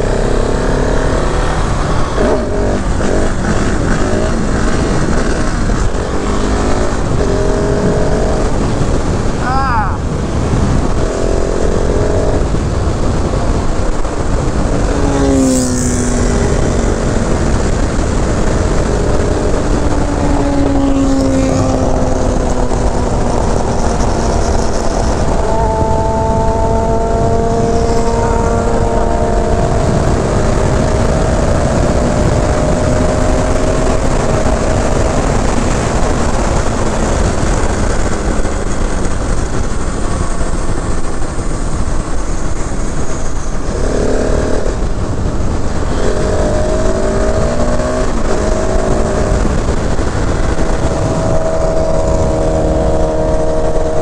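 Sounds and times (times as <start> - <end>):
motorcycle engine while riding: 0.0 - 54.0
wind rushing on microphone: 0.0 - 54.0.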